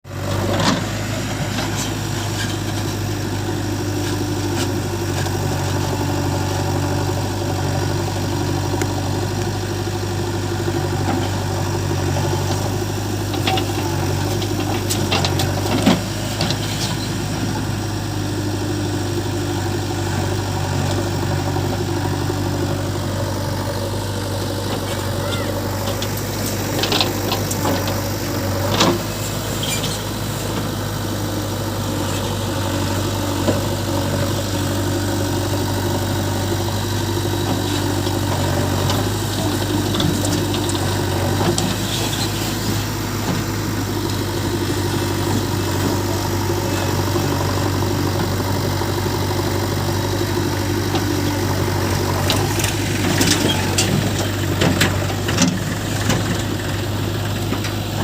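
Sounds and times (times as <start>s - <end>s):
diesel machinery humming: 0.0s - 58.0s.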